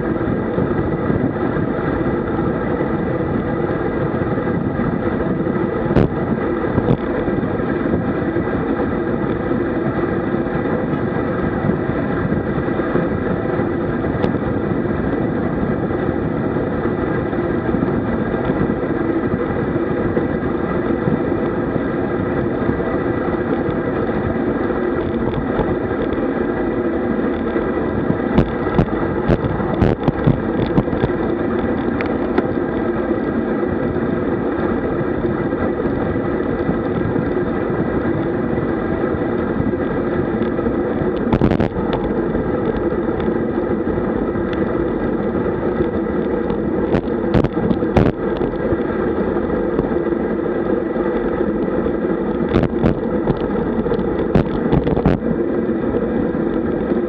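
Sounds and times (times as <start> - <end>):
bicycle road noise: 0.0 - 57.0
wind rushing over microphone: 0.0 - 57.0.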